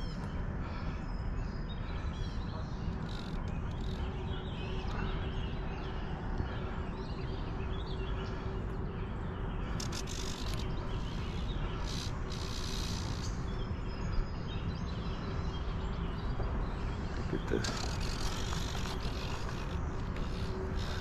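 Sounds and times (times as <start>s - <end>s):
low outdoor rumble: 0.0s - 21.0s
small birds chirping: 0.0s - 21.0s.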